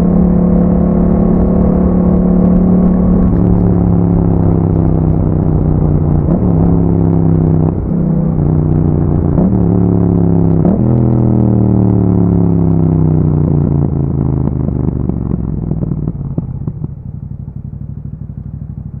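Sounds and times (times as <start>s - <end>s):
exhaust crackles: 0.0s - 19.0s.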